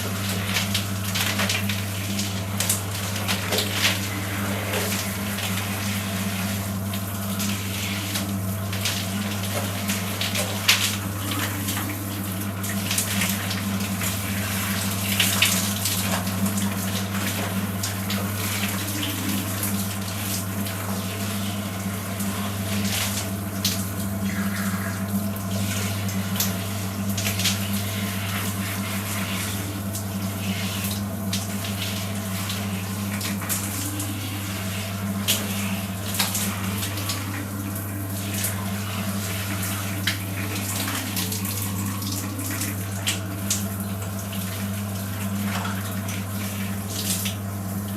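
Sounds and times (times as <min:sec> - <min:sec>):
water running and splashing: 0:00.0 - 0:47.9.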